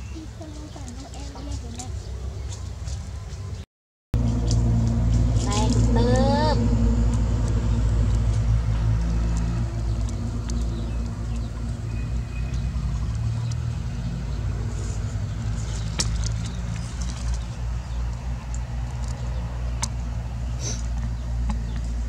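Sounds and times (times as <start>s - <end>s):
engine idling: 4.2s - 22.0s.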